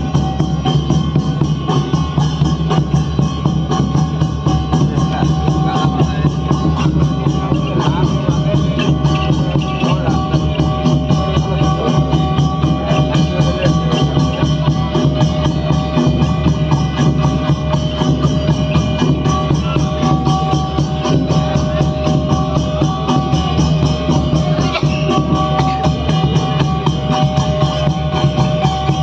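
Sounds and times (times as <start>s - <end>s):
fast folk drumming: 0.0s - 29.0s
held melodic tones: 0.0s - 29.0s.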